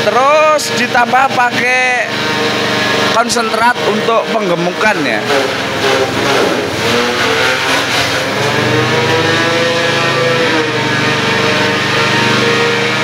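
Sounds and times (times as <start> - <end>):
forage chopper engine running: 0.0 - 13.0.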